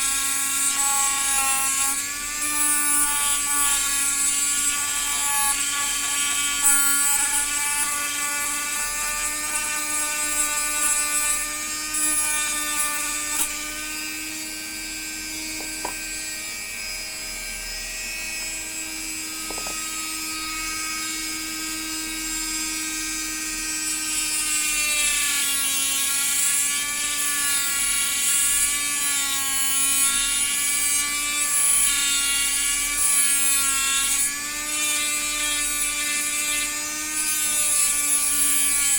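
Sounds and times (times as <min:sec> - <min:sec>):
small electric motor running: 0:00.0 - 0:38.9.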